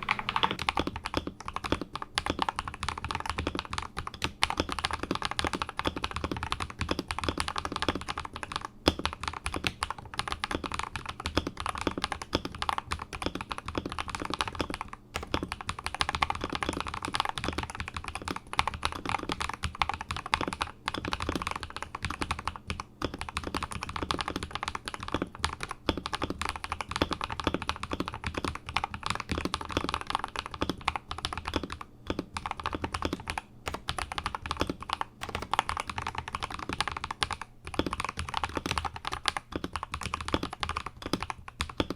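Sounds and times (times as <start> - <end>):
mechanical keyboard typing: 0.0 - 41.9.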